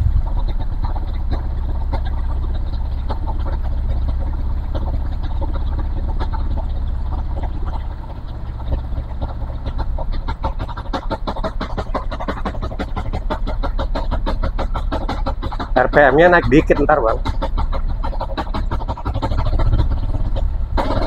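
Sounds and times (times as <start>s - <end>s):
coolant glugging from a jug: 0.0s - 21.0s
motorcycle engine idling: 0.0s - 21.0s.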